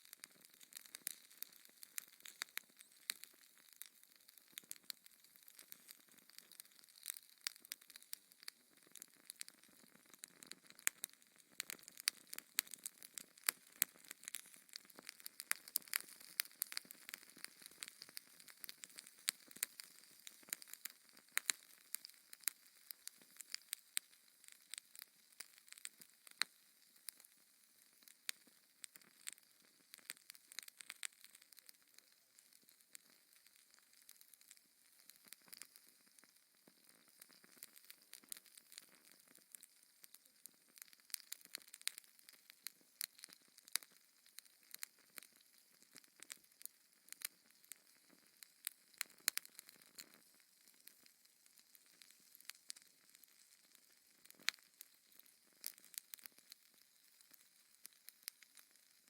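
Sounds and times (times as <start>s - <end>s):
fire crackling: 0.0s - 59.0s
soft steady hiss: 0.0s - 59.0s.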